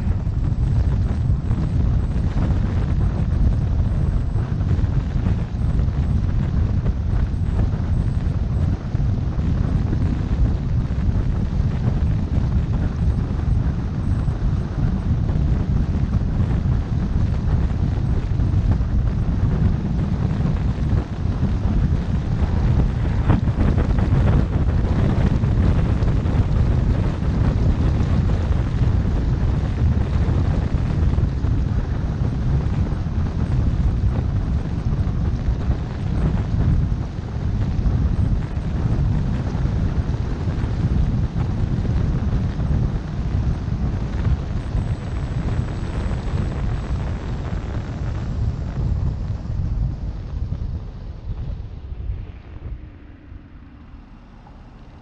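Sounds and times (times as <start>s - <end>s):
car road noise: 0.0s - 55.0s
wind rumble on microphone: 0.0s - 55.0s.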